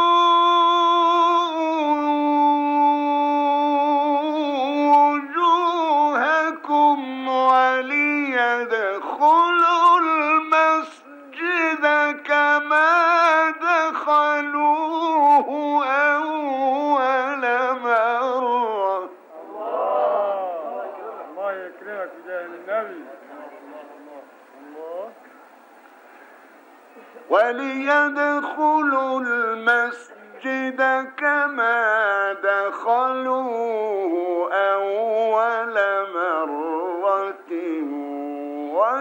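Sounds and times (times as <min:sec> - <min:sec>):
man chanting melodic recitation: 0:00.0 - 0:19.3, 0:20.3 - 0:25.2, 0:27.3 - 0:39.0.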